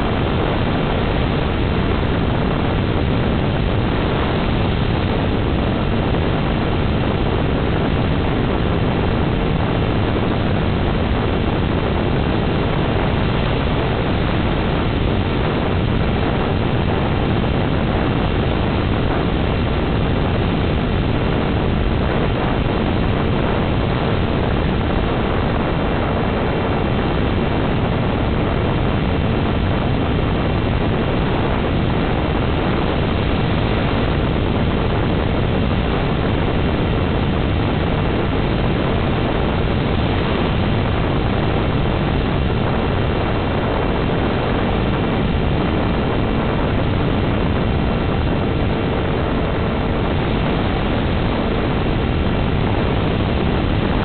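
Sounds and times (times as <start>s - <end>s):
rc plane in-flight rushing noise: 0.0s - 54.0s.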